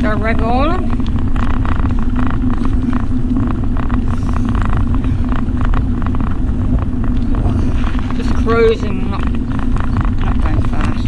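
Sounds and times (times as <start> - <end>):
low hum: 0.0 - 11.0
road noise: 0.0 - 11.0
wind buffeting microphone: 0.0 - 11.0.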